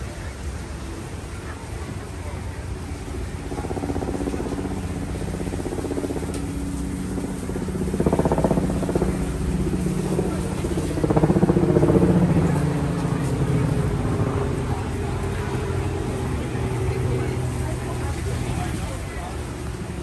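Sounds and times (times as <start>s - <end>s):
vehicle engine running: 3.2s - 20.0s.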